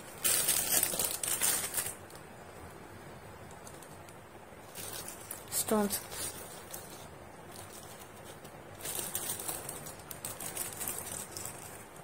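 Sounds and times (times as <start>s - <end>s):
plastic packets crinkling: 0.0s - 2.2s, 3.5s - 12.0s.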